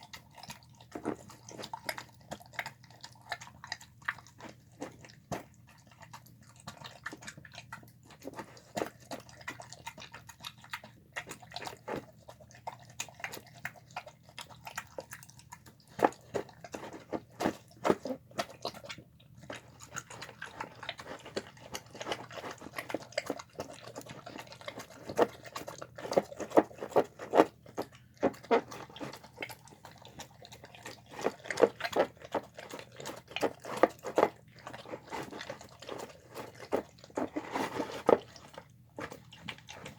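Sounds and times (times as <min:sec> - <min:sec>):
dog chewing wet food: 0:00.0 - 0:39.9.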